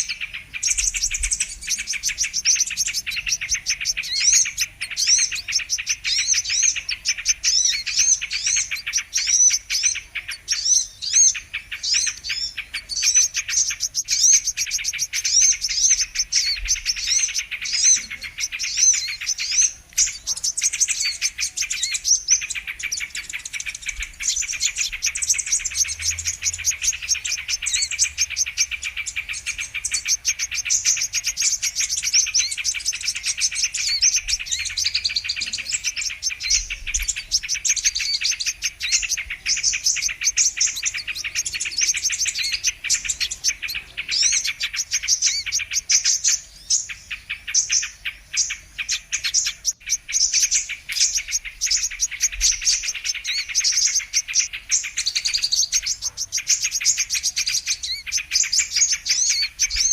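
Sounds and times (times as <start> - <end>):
bird twittering chirps and trills: 0.0 - 59.9.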